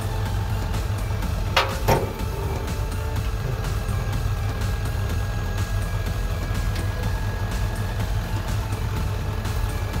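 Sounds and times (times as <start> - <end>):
background music: 0.0 - 10.0
diesel truck engine running: 0.0 - 10.0.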